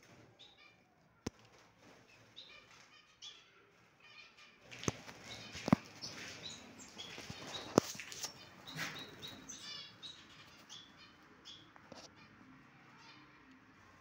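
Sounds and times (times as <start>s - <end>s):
cage birds chirping: 0.0s - 14.0s.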